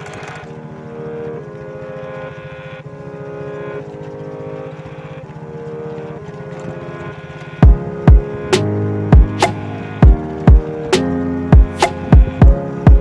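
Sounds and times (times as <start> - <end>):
fast pulsing low note: 0.0 - 13.0
sustained electronic chords: 0.0 - 13.0.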